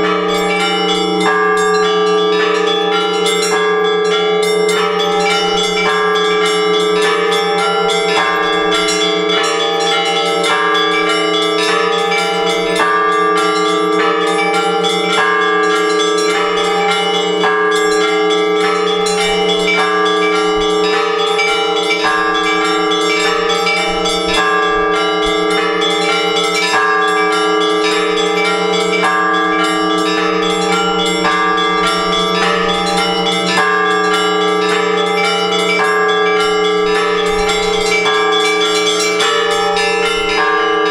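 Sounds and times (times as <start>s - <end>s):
large bells humming: 0.0s - 40.9s
small church bells ringing: 0.0s - 40.9s.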